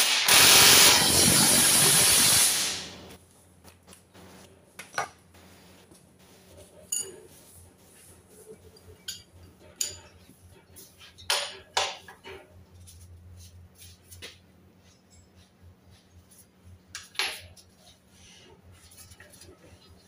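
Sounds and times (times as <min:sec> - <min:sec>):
steady low hum: 0:02.9 - 0:20.0.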